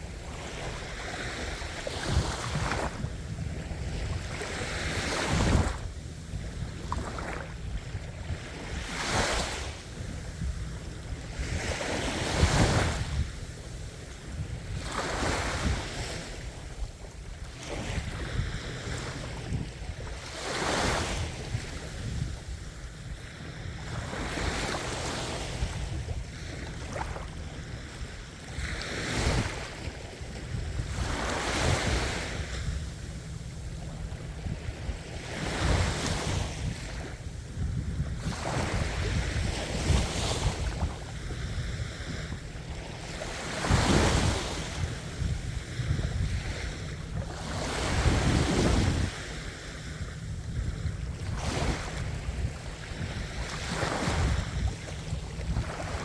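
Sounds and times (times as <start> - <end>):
low rumble of surf: 0.0 - 56.0
waves breaking: 0.0 - 56.0.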